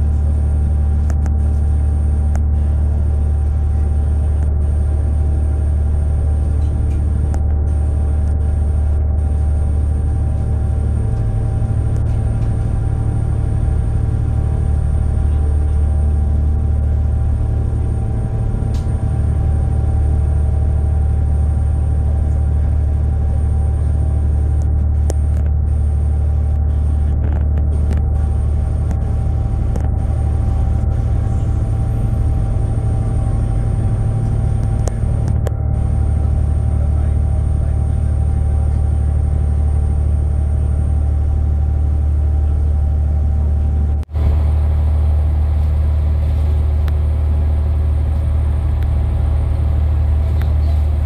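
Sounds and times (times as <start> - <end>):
ferry engines droning: 0.0 - 51.0.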